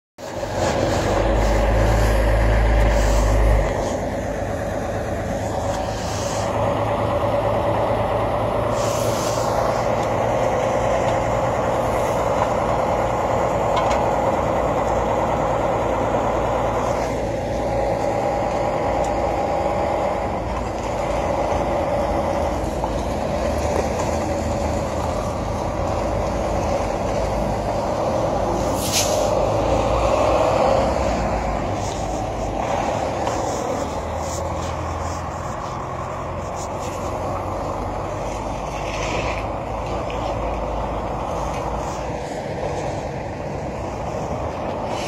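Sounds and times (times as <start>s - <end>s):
heavy truck engines running: 0.2s - 45.0s.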